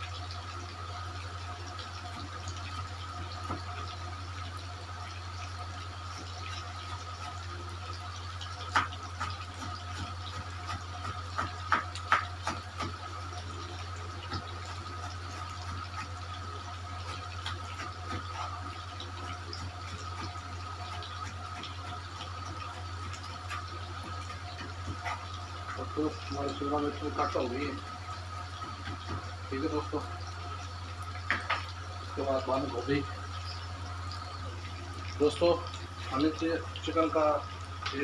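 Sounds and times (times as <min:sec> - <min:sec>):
chicken frying in hot oil: 0:00.0 - 0:38.0.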